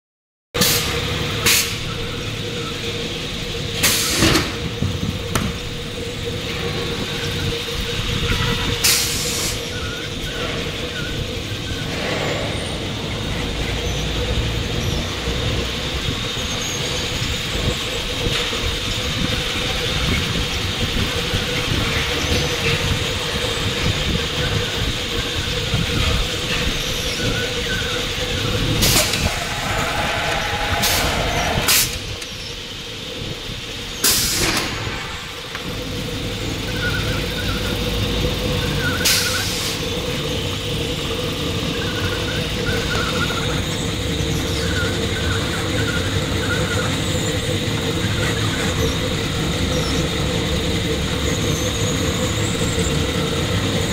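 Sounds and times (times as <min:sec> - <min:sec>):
machine humming: 0:00.8 - 0:34.1, 0:34.7 - 0:53.9.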